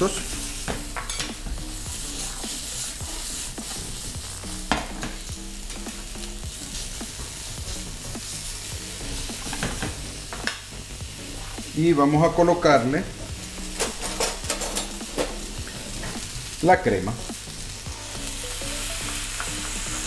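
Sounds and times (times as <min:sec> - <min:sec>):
bacon and mushrooms sizzling in pan: 0:00.0 - 0:20.0.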